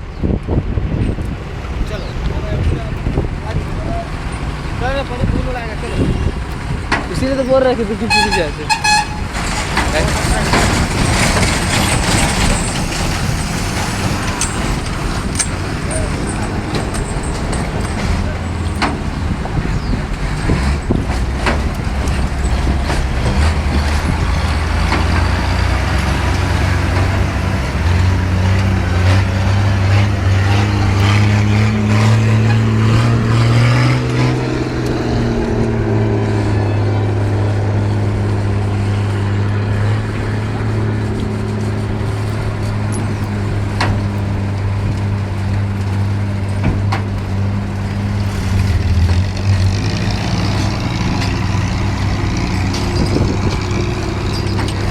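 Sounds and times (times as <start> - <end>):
heavy truck engine running: 0.0 - 54.9.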